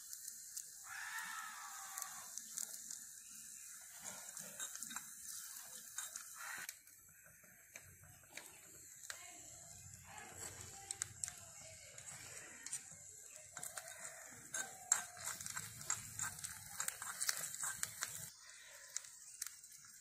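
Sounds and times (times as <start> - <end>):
hot oil sizzling: 0.0 - 20.0
sharp crackling pops: 0.0 - 20.0.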